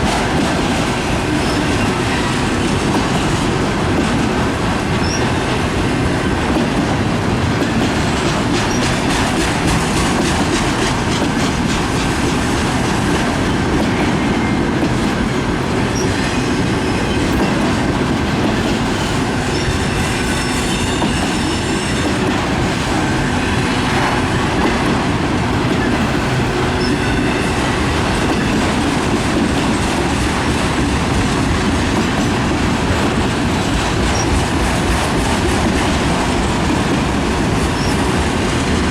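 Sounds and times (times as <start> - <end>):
freight train cars rumbling past: 0.0 - 38.9
wheel clatter over rail joints: 0.0 - 38.9.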